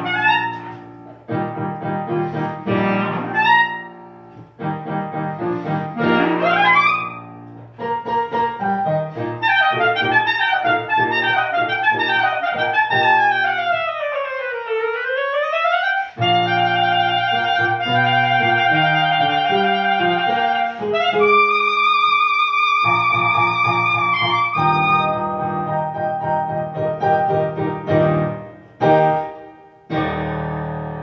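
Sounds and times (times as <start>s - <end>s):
clarinet melody: 0.0s - 31.0s
piano chords: 0.0s - 31.0s.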